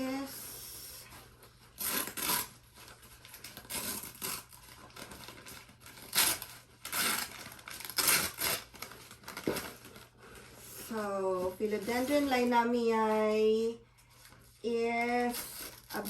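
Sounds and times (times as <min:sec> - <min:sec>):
packaging rustling and tearing: 0:01.1 - 0:12.5, 0:14.2 - 0:16.0.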